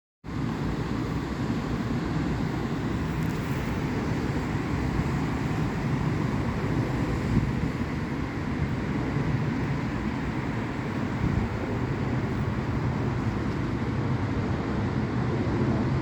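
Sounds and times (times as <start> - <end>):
road traffic rumble: 0.2 - 16.0
wind on microphone: 0.4 - 16.0.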